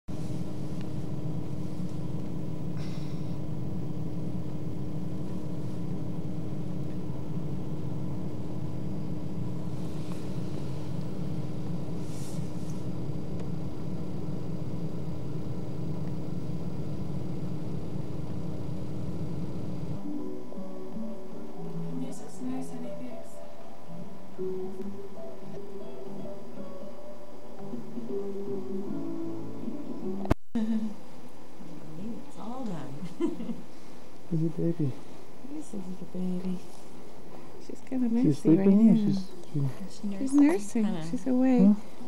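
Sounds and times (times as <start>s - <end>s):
faint constant hum: 0.1s - 42.0s.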